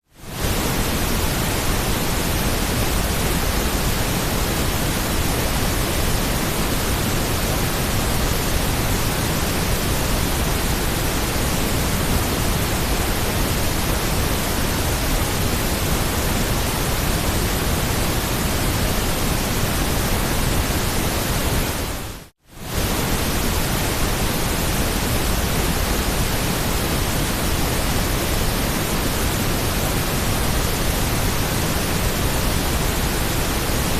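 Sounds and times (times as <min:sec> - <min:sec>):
white noise hiss: 0:00.0 - 0:33.9.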